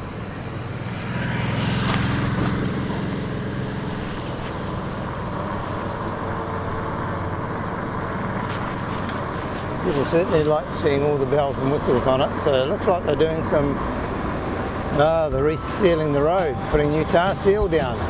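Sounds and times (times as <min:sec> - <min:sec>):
traffic hum: 0:00.0 - 0:18.0
vehicle passing: 0:00.0 - 0:18.0.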